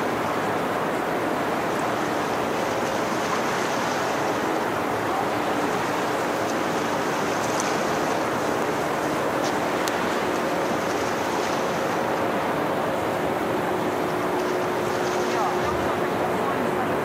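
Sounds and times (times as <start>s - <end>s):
low ship hum: 0.0s - 17.0s
water rushing along ship hull: 0.0s - 17.0s.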